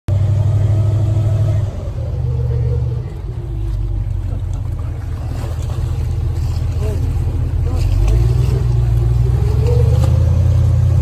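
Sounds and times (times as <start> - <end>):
airboat engine droning: 0.1 - 11.0.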